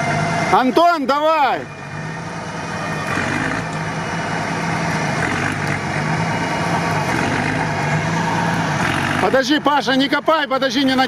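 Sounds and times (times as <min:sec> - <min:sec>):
off-road engine idling: 0:00.0 - 0:11.0.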